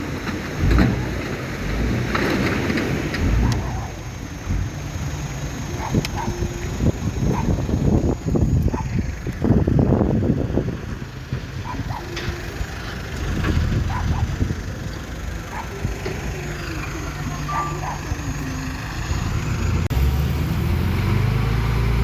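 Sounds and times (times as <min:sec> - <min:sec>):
diesel machinery rumble: 0:00.0 - 0:22.0.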